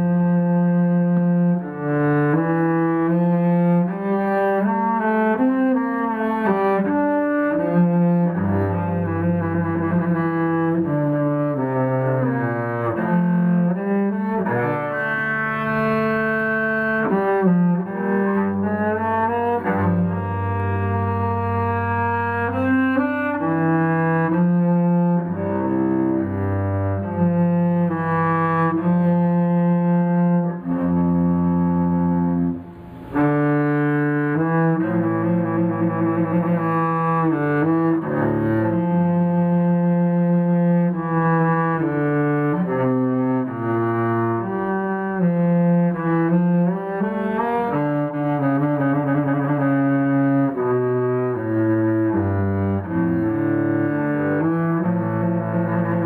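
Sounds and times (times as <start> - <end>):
bowed cello: 0.0 - 56.0.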